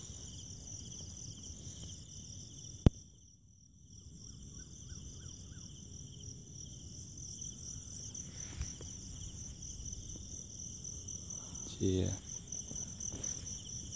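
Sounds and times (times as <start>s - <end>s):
crickets trilling: 0.0s - 13.9s.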